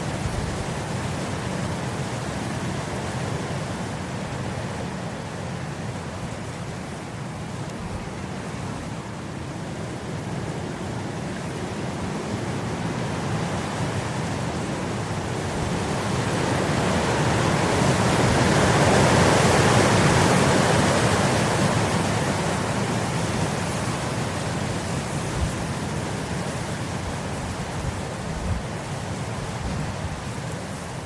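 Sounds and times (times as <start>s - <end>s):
wind blowing across grass: 0.0s - 31.0s.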